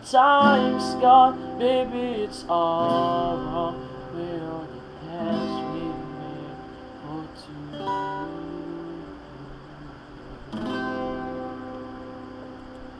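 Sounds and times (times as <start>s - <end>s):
acoustic guitar chords strummed: 0.0s - 12.9s.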